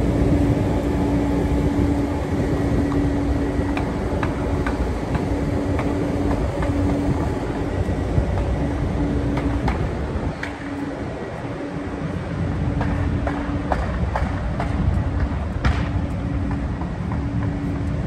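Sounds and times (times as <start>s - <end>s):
city rumble: 0.0s - 18.0s
constant low hum: 0.0s - 18.0s.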